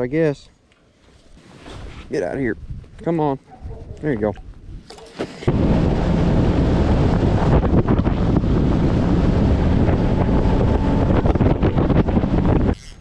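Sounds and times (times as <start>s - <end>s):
wind buffeting microphone: 2.2s - 12.9s.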